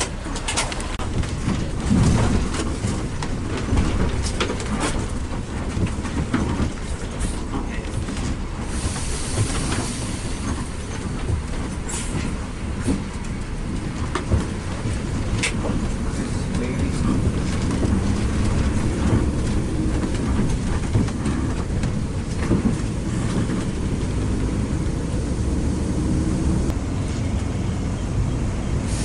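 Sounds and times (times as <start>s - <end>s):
cabin rattles and clicks: 0.0s - 8.7s, 10.4s - 25.1s
bus engine and road rumble: 0.0s - 29.0s.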